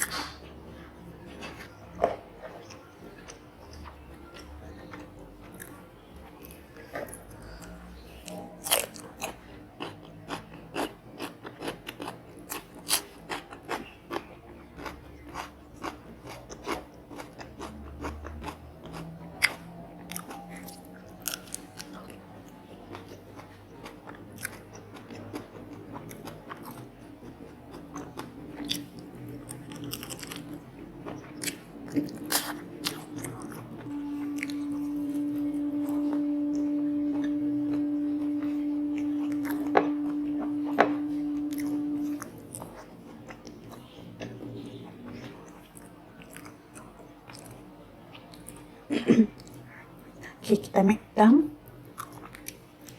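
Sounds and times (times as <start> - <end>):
crunching and chewing fried food: 0.0 - 35.3, 41.5 - 50.6, 51.6 - 52.9.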